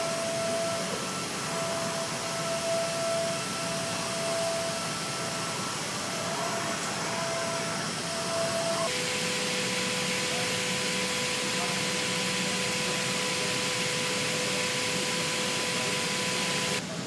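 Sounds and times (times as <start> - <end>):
machine whine: 0.0 - 17.0.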